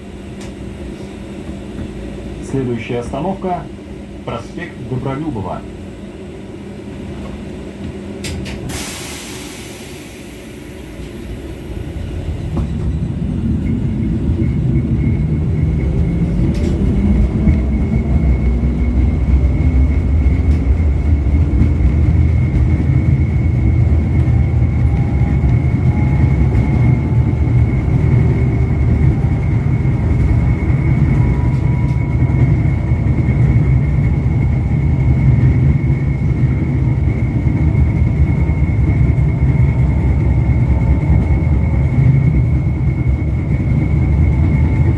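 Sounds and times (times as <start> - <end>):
tram wheels rumbling: 0.0 - 44.9.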